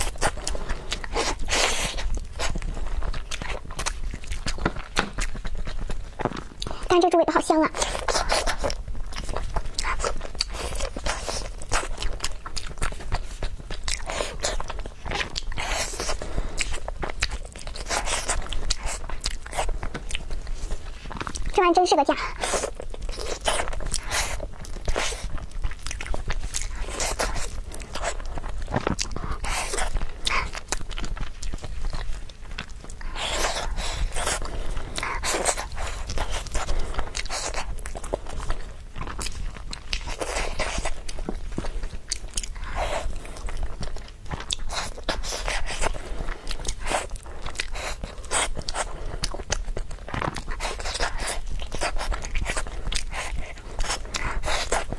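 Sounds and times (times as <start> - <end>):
person chewing and crunching: 0.0 - 54.9.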